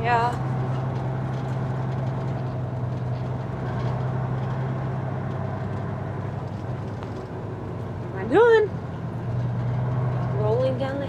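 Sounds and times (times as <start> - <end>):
diesel engine drone inside cab: 0.0 - 11.0.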